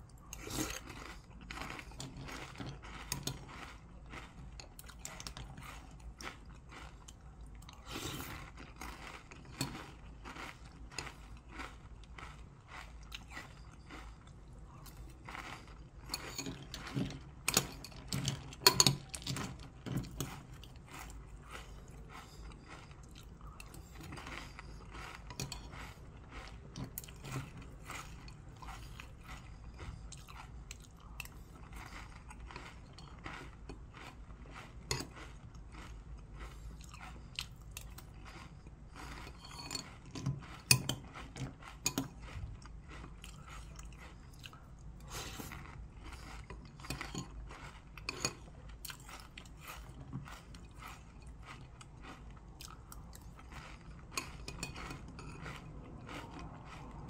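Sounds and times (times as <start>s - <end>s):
chewing crunchy cereal: 0.0s - 57.0s.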